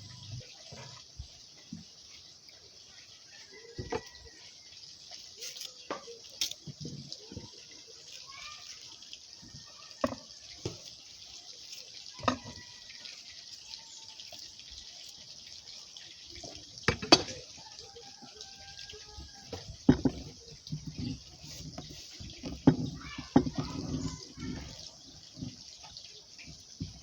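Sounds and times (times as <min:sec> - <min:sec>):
water drips and splashes: 0:00.0 - 0:27.0.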